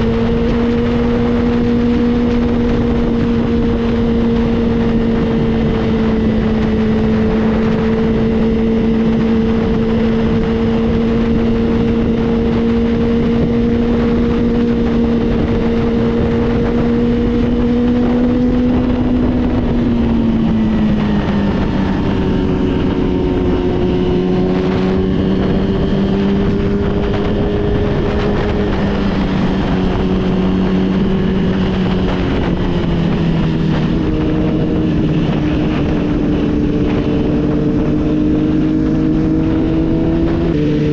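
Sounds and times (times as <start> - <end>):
motorcycle engine cruising: 0.0 - 40.9
other motorcycle engines: 0.0 - 40.9
wind rushing: 0.0 - 40.9.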